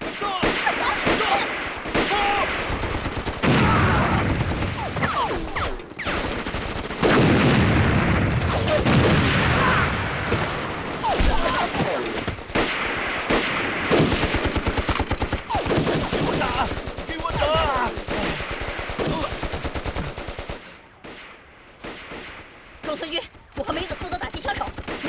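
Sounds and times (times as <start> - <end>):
machine-gun fire: 0.0 - 25.0
rifle shots: 0.0 - 25.0.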